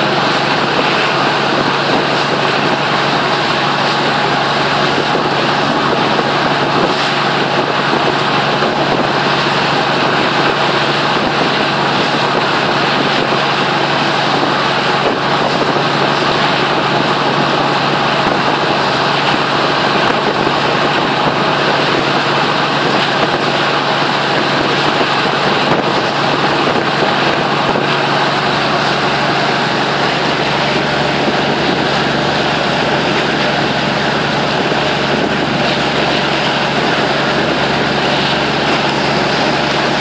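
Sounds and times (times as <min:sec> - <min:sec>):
boat engine humming: 0:00.0 - 0:40.0
churning water rushing: 0:00.0 - 0:40.0.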